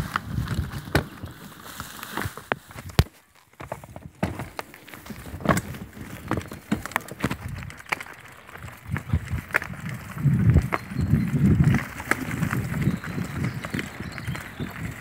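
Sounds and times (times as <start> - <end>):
mountain bike rattling and knocking: 0.0 - 15.0
tyres on dirt: 0.0 - 15.0.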